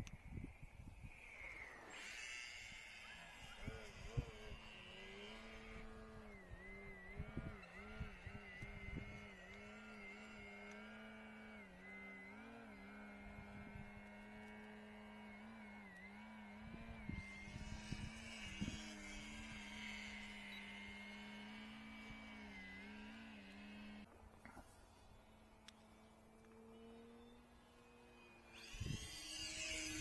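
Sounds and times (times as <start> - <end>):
electric motor and propeller humming: 0.0 - 30.0.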